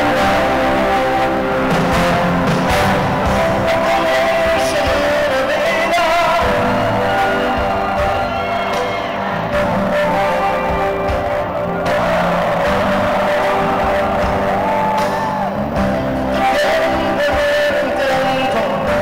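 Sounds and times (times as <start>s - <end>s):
live band music: 0.0s - 19.0s
man singing: 0.0s - 19.0s.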